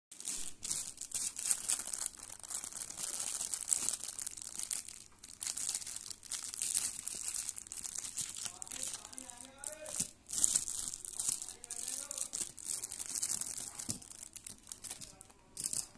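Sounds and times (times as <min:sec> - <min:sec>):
plastic wrapper crinkling: 0:00.1 - 0:15.9.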